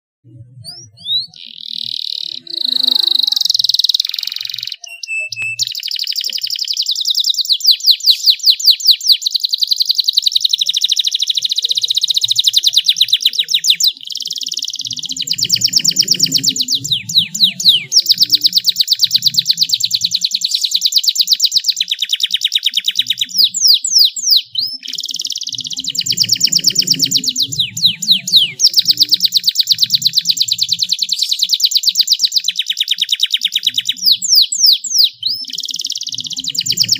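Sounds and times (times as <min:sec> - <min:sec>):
canary singing trills: 0:00.3 - 0:36.9.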